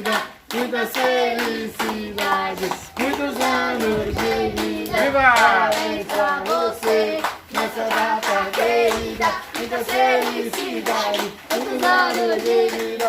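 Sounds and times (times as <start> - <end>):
group of voices singing together: 0.0 - 13.0
rhythmic hand-clapping: 0.0 - 13.0.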